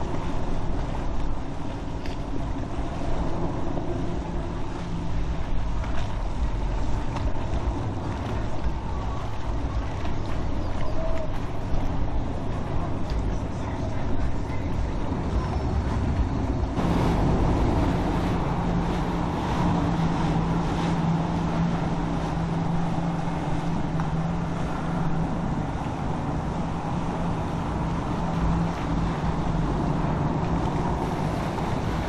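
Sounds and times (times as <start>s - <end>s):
boat engines humming: 0.0s - 32.0s
water wash: 0.0s - 32.0s
wind on microphone: 0.0s - 32.0s.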